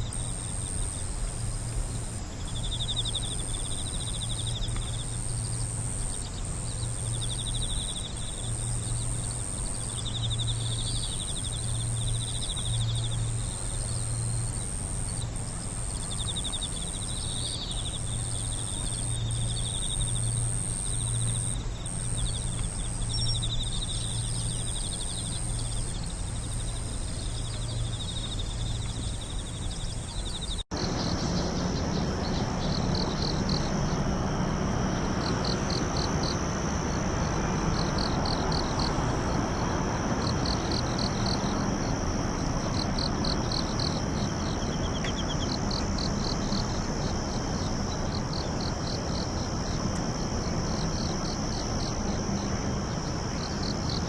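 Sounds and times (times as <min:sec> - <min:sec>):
crickets trilling: 0:00.0 - 0:54.0
low hum: 0:00.0 - 0:54.0.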